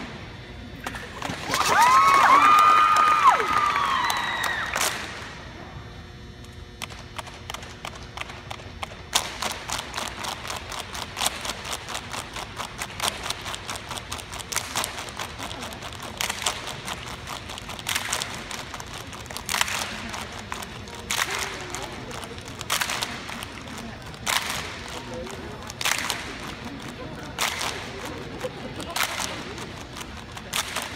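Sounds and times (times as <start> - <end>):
crowd noise: 0.0 - 30.9
rhythmic hand claps and slaps: 0.9 - 5.5, 6.5 - 30.9.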